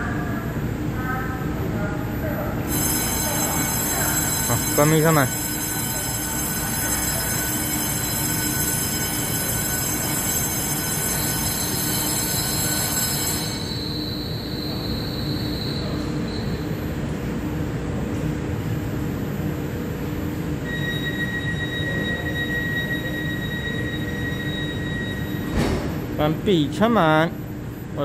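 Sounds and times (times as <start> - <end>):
train electrical whine: 0.0 - 28.0.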